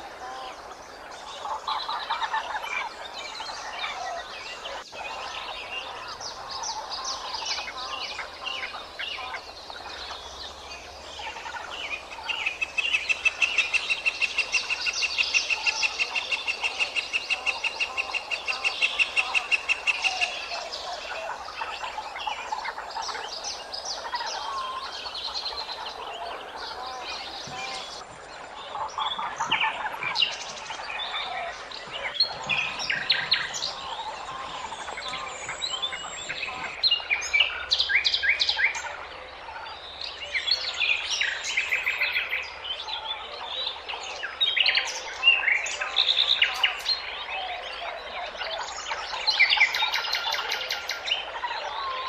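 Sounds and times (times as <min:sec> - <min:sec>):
small birds chirping: 0:00.0 - 0:39.1, 0:39.7 - 0:51.9.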